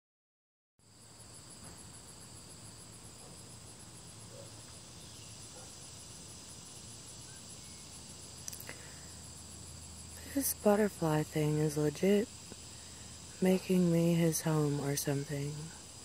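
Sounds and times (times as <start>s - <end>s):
insect chorus trilling: 0.8s - 16.0s
faint low hum: 1.0s - 16.0s.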